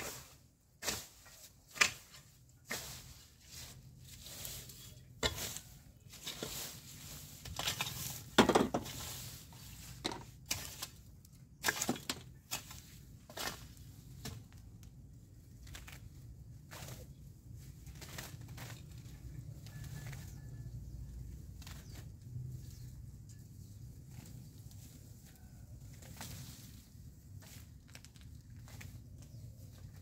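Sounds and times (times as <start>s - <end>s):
wooden garden tool scraping soil: 0.0s - 30.0s.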